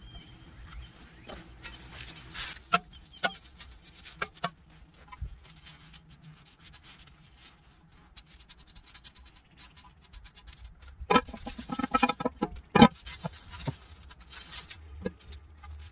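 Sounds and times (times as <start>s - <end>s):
brush scratching on cast iron: 0.1s - 15.9s.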